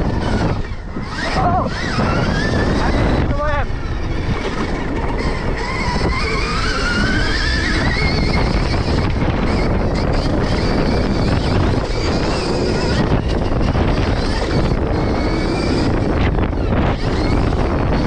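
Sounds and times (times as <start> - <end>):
electric motorbike motor whining: 0.0 - 18.0
wind noise: 0.0 - 18.0.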